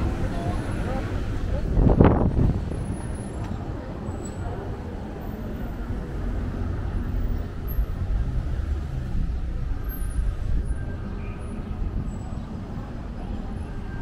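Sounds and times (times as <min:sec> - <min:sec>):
traffic driving past: 0:00.0 - 0:14.0.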